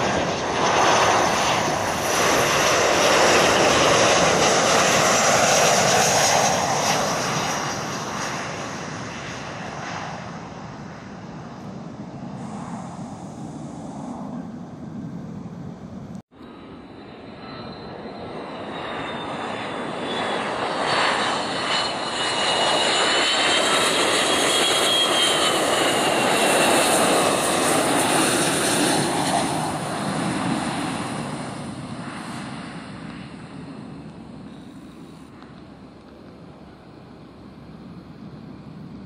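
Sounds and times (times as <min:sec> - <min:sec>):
high engine whine: 0:00.0 - 0:39.0
jet airliner passing: 0:00.0 - 0:39.0.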